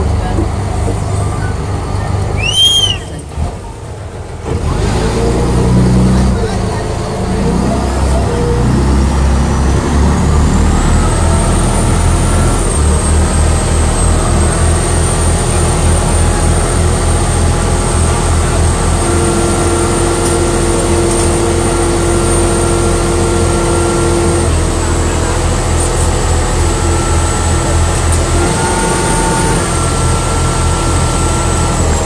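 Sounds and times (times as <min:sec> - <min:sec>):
boat engine rumbling: 0:00.0 - 0:32.0.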